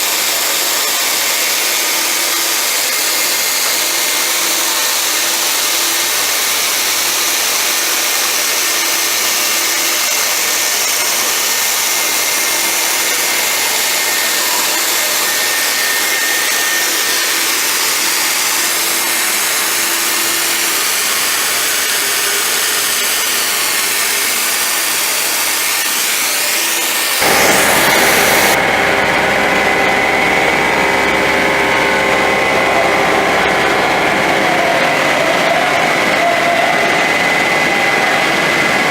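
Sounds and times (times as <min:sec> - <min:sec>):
cnc machine cutting with whine: 0:00.0 - 0:38.9.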